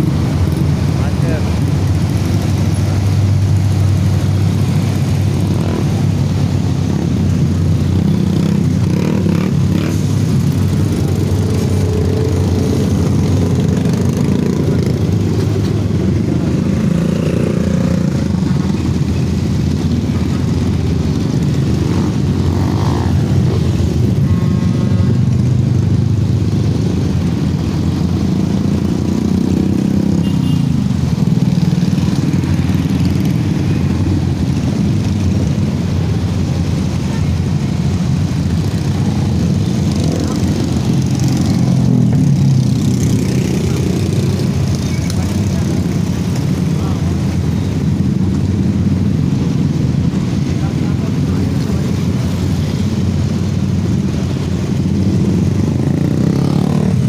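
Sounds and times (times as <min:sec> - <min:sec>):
motorcycles revving: 0:00.0 - 0:57.0.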